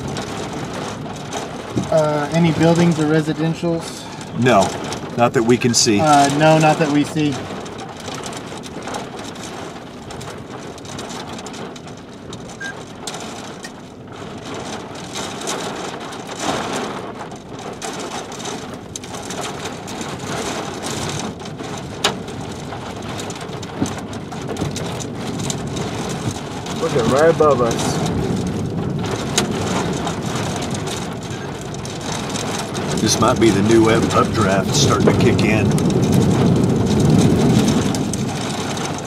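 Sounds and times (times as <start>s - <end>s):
rain pattering: 0.0s - 39.0s.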